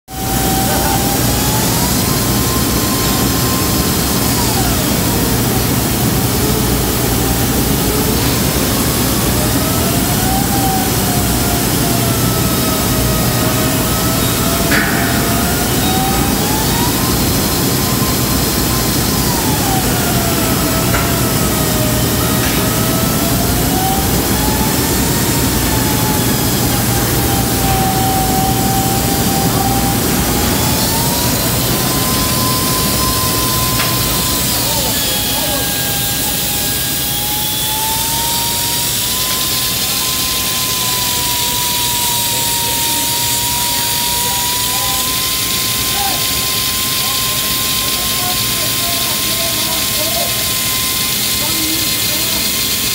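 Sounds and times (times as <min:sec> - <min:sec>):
grinder running with whine: 0:00.1 - 0:52.9
low hum: 0:00.2 - 0:45.8.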